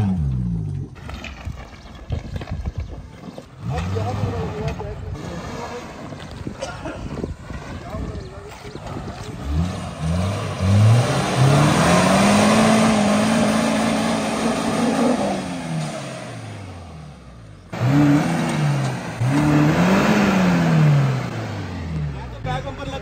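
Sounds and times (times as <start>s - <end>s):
car engine revving: 0.0s - 0.9s, 3.6s - 6.4s, 7.3s - 23.0s.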